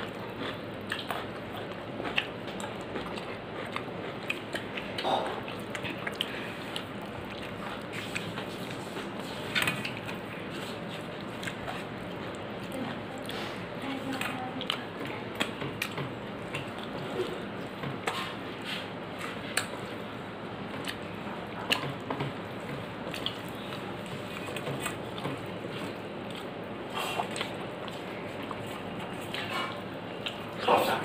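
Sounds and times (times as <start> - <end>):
person chewing: 0.0 - 31.0
person mixing food by hand: 0.0 - 31.0.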